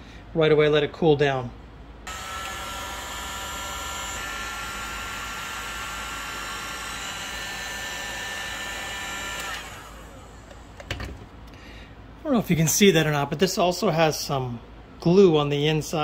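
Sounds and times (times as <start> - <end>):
heat gun fan blowing with whine: 2.0 - 16.0.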